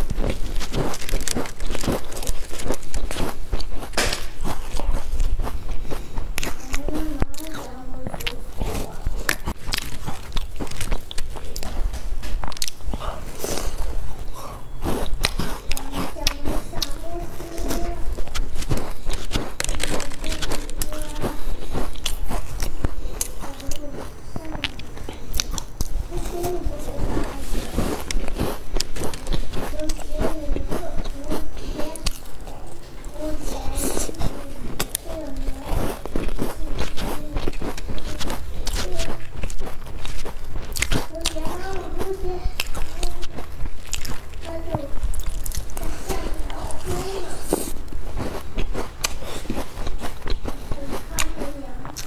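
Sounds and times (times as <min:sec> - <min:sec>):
crunching and chewing cookies: 0:00.0 - 0:52.0.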